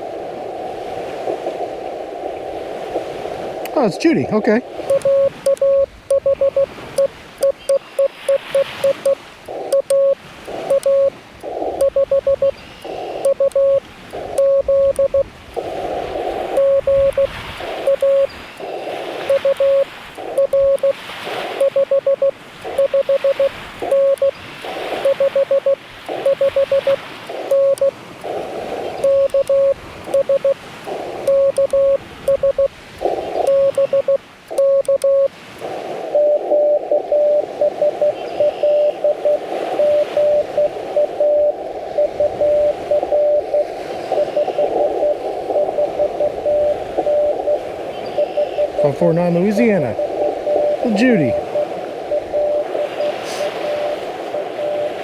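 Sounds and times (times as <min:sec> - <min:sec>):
hissy radio band noise: 0:00.0 - 0:55.0
morse code tone: 0:03.7 - 0:55.0.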